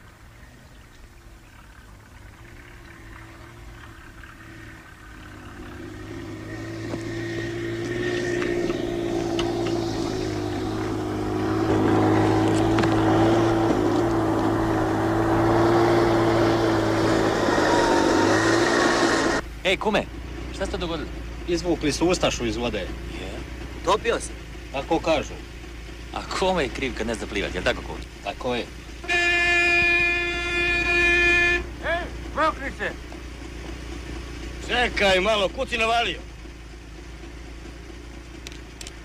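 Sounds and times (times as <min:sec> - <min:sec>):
car engine on gravel road: 0:00.0 - 0:39.0.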